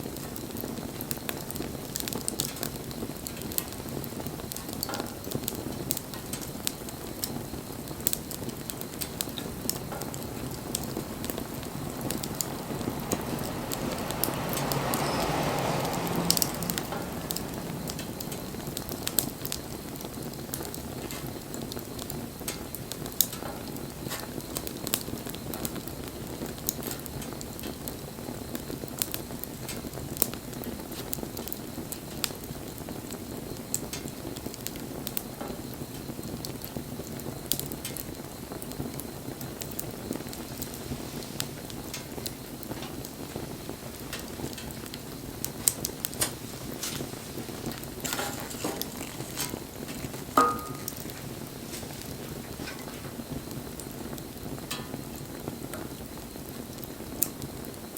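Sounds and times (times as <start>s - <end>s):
burning wood crackling: 0.0s - 57.9s
campfire flames hissing: 0.0s - 57.9s.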